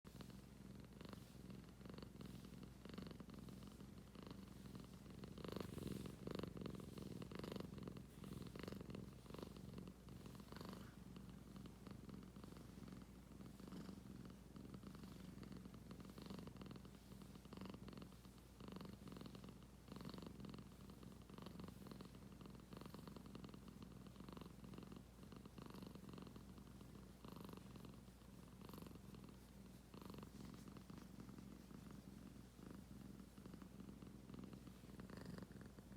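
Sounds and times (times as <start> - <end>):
cat purring: 0.1 - 35.9.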